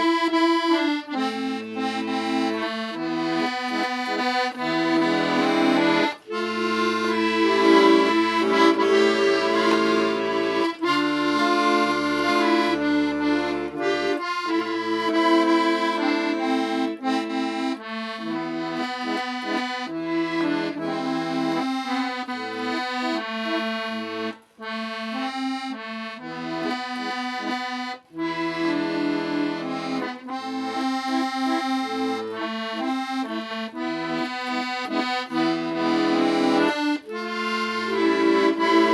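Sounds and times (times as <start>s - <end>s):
accordion playing melody: 0.0s - 38.9s.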